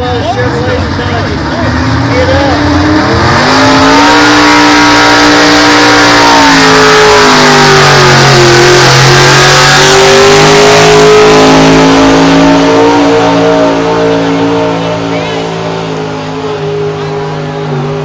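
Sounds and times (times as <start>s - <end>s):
truck engine at full throttle: 0.0s - 18.0s.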